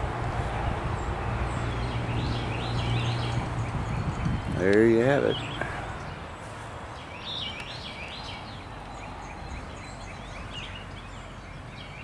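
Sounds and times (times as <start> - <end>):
steady outdoor background noise: 0.0 - 12.0.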